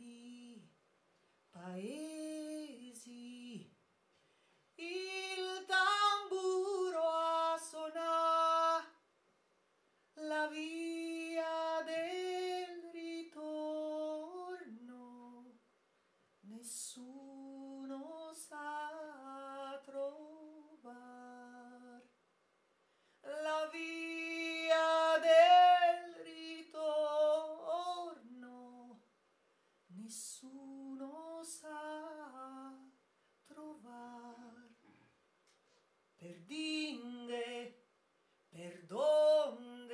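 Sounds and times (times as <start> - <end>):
woman singing unaccompanied: 0.0 - 0.8, 1.6 - 3.8, 4.8 - 9.0, 10.2 - 15.6, 16.4 - 22.2, 23.2 - 29.1, 29.9 - 34.8, 36.2 - 37.8, 38.5 - 39.9.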